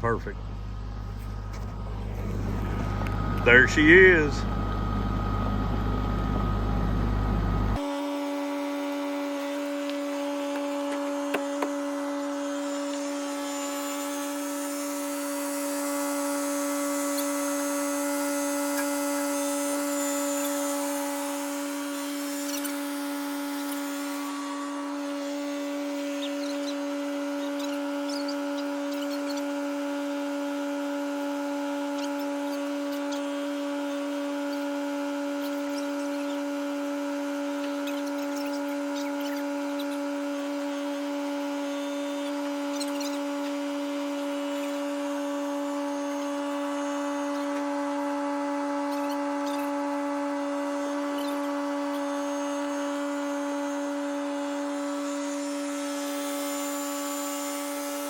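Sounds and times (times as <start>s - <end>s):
motor-driven machine whine: 0.0s - 58.0s.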